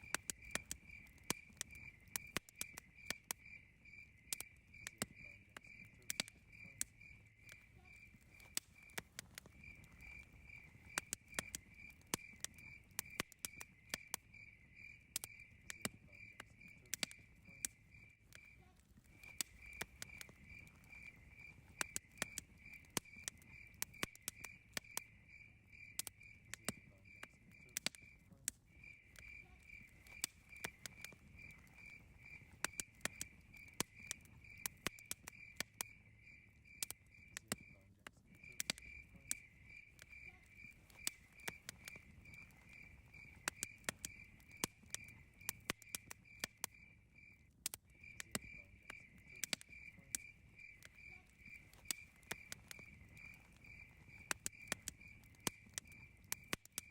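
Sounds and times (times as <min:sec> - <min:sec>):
campfire crackling and popping: 0:00.0 - 0:56.9
cricket chirping: 0:00.0 - 0:56.9.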